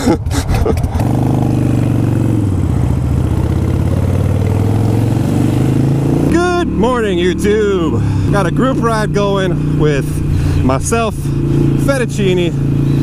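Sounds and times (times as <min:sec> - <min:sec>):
motorcycle engine pulling away: 0:00.6 - 0:13.0.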